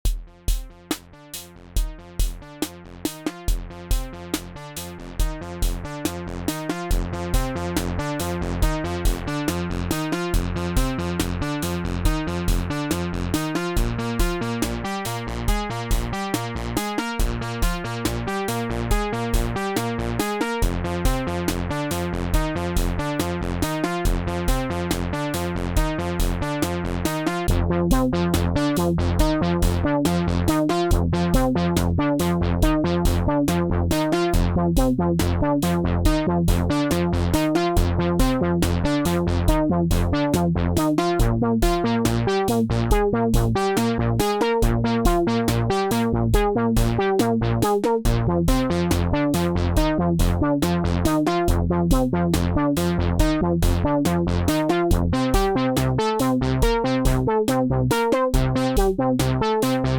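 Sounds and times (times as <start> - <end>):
electronic drum pattern: 0.0 - 59.9
synth bass: 0.0 - 59.9.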